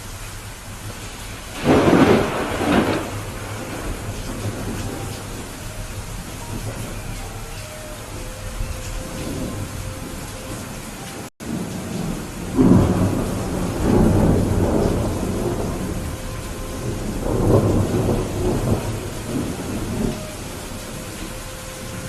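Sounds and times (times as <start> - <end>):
heavy rain: 0.0 - 22.0
rolling thunder: 0.0 - 22.0.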